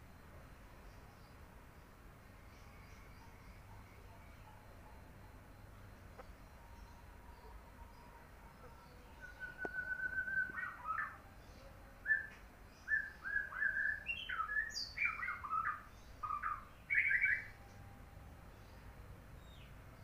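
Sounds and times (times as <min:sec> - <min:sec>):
bird singing: 0:00.0 - 0:20.0.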